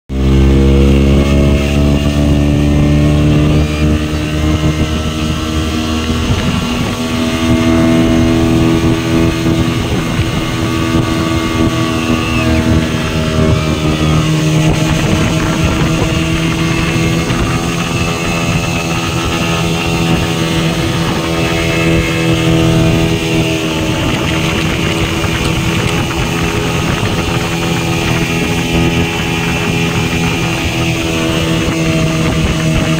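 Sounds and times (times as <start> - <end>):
speedboat engine running: 0.1 - 32.9
wake water rushing: 0.1 - 32.9.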